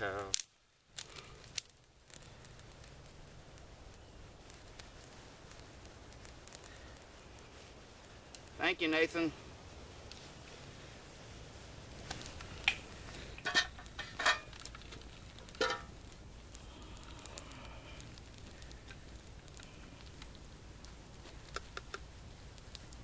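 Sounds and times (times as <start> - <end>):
campfire crackling: 0.0 - 23.0
sharp pops of fire: 0.0 - 23.0.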